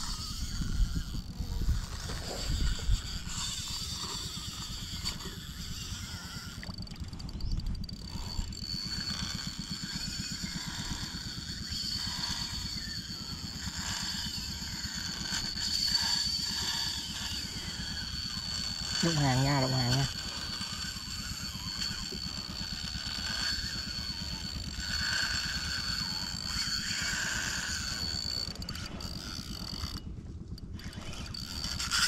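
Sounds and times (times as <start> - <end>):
small engine running: 0.0 - 32.0
thin high whine: 0.0 - 32.0.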